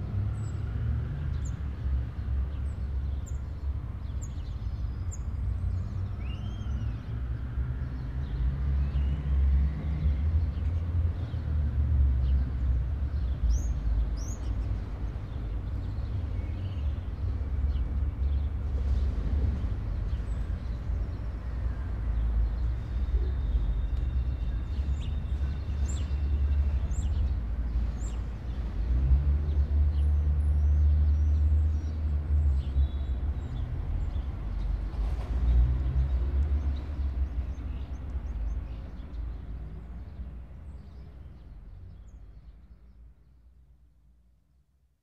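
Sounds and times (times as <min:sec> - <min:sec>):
distant city traffic rumble: 0:00.0 - 0:44.6.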